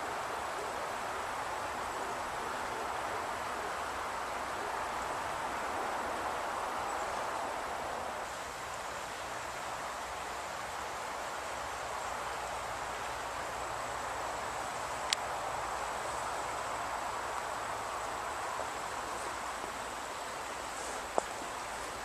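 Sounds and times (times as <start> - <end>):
faint high whine: 0.0 - 22.0
river water flowing: 0.0 - 22.0.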